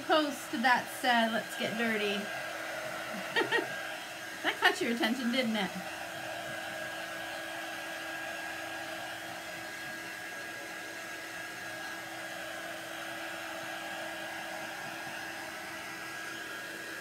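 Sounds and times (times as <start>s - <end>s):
hand-held dryer blowing: 0.0s - 17.0s.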